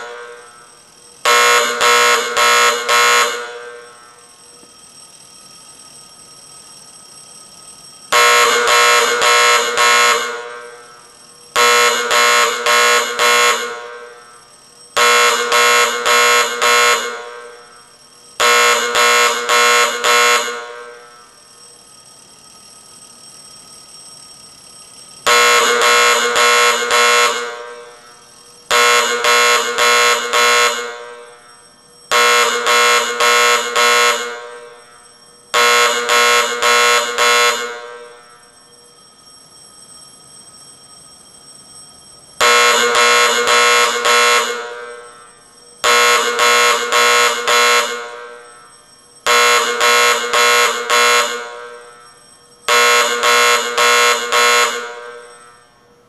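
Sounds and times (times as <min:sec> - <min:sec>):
fire alarm bell pulses: 0:00.0 - 0:56.0.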